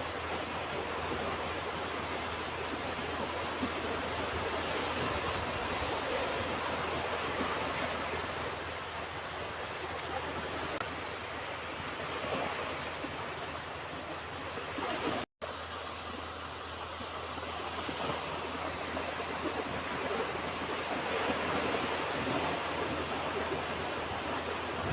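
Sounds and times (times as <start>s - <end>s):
ocean waves washing onto beach: 0.0s - 24.9s.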